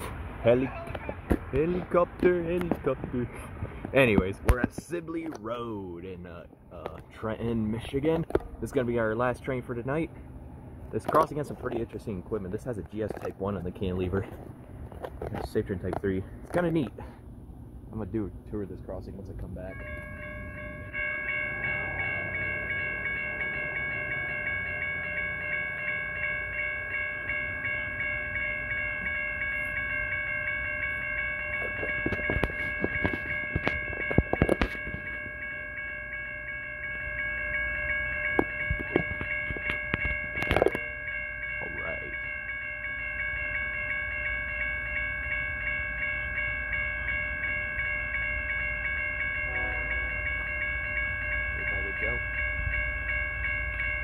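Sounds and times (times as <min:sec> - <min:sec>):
railroad crossing bells ringing: 0:00.0 - 0:54.0.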